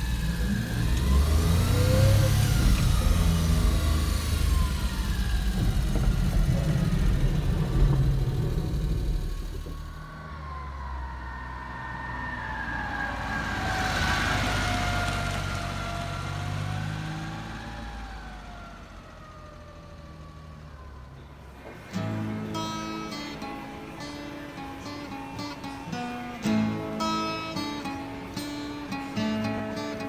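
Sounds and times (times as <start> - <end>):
engine whine: 0.0 - 30.0
truck engine driving by: 0.0 - 30.0.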